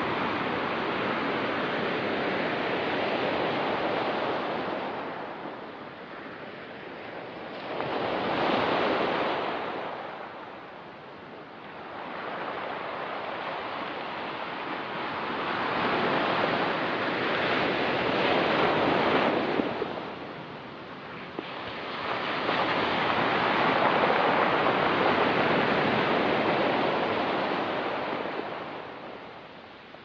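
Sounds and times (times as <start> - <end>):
ocean waves on rocky beach: 0.0 - 30.0.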